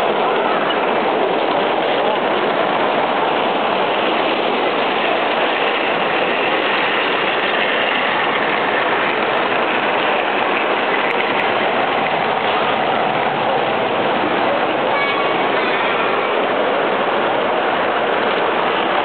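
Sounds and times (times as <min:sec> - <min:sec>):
model train wheels rolling: 0:00.0 - 0:19.0.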